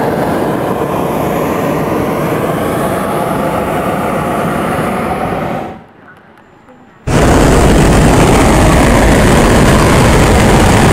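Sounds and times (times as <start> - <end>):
propane burner blast: 0.0 - 5.9, 7.0 - 10.9.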